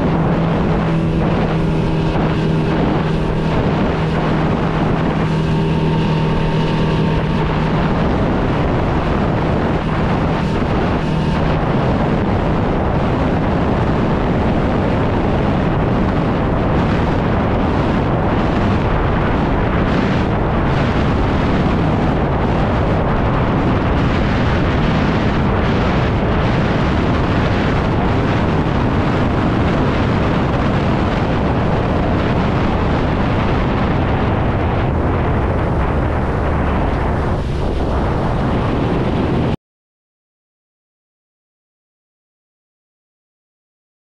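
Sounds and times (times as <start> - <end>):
wind rumble on microphone: 0.0 - 39.6.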